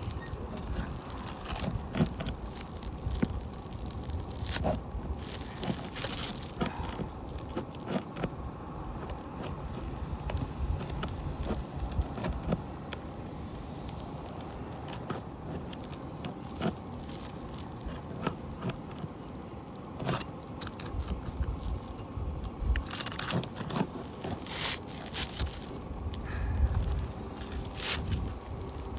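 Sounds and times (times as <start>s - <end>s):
metal tool scraping shingles: 0.0s - 12.6s, 14.4s - 28.4s.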